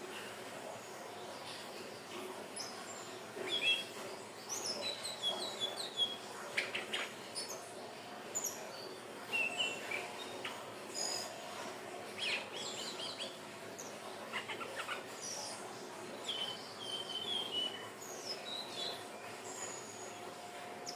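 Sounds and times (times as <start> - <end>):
bird twittering song: 1.2 - 11.4, 12.1 - 20.2.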